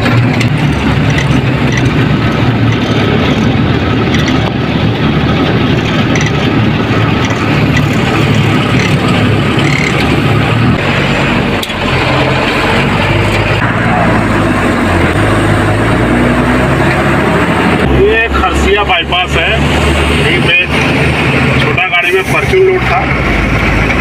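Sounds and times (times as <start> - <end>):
diesel truck engine running: 0.0 - 24.0
road noise: 0.0 - 24.0.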